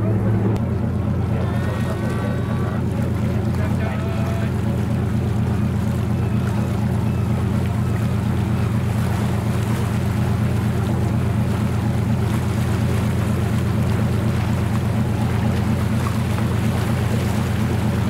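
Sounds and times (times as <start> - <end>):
boat engine droning: 0.0 - 18.0
water wash: 0.0 - 18.0
wind: 0.0 - 18.0.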